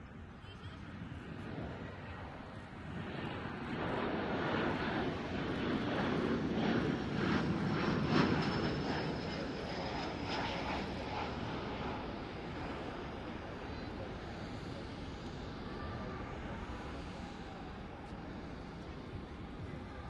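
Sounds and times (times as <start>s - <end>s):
jet aircraft passing low: 0.1s - 20.0s.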